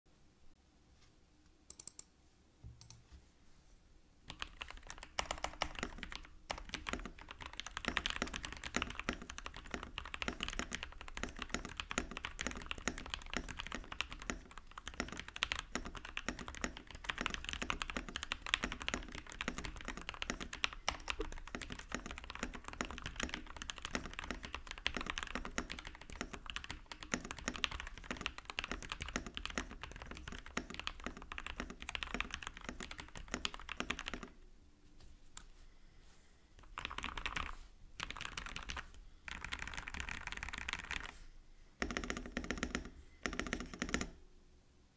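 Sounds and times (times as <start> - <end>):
mechanical keyboard typing: 1.7 - 2.0, 4.3 - 34.4, 36.6 - 41.2, 41.8 - 44.2.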